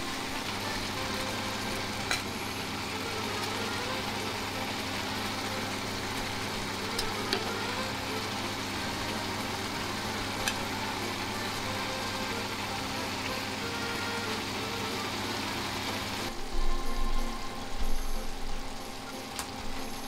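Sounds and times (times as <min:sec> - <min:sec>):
low steady hum: 0:00.0 - 0:20.0
meat and vegetables sizzling in pan: 0:00.0 - 0:20.0.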